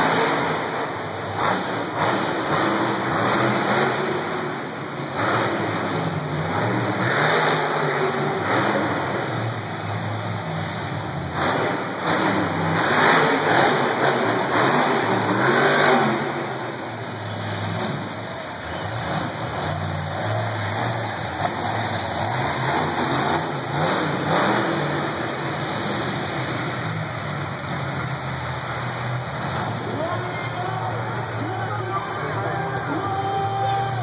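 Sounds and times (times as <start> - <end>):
monster truck engines revving: 0.0 - 34.0.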